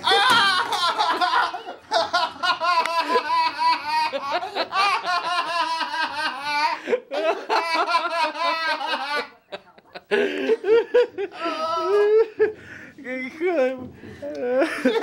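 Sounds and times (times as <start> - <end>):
man laughing heartily: 0.0 - 12.6, 14.2 - 15.0.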